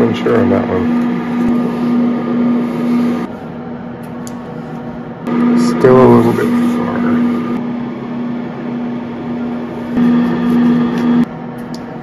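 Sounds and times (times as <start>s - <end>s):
laser engraver electrical hum: 0.0s - 12.0s.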